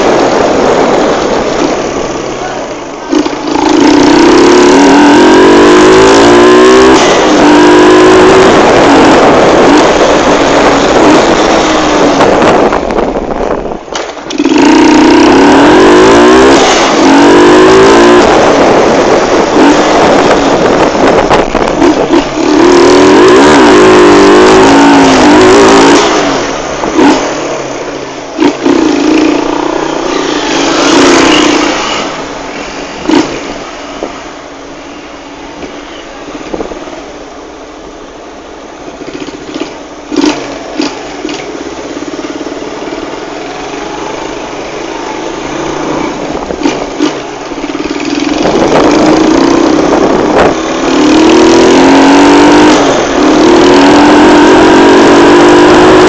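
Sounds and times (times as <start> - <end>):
motorcycle engine accelerating: 0.0 - 33.8, 39.0 - 56.0.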